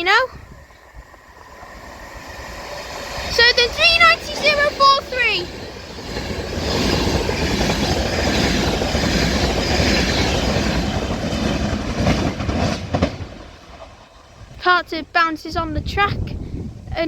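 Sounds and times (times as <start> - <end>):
train passing at speed: 0.0 - 16.1.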